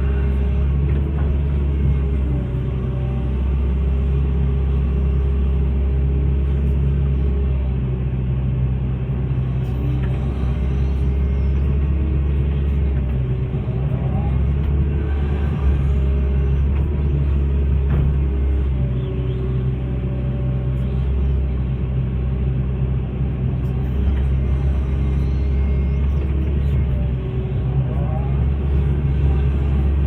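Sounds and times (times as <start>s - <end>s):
excavator diesel engine droning: 0.0s - 30.0s.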